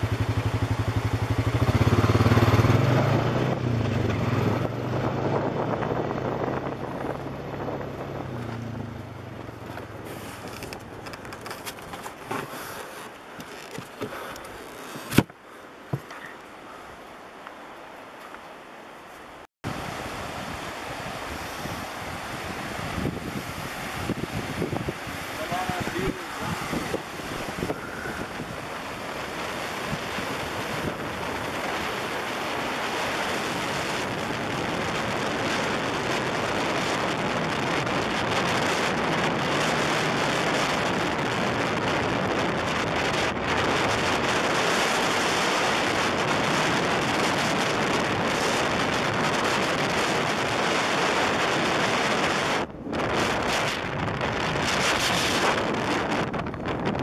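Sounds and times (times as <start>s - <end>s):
wind rushing on microphone: 0.0s - 17.2s, 19.6s - 57.0s.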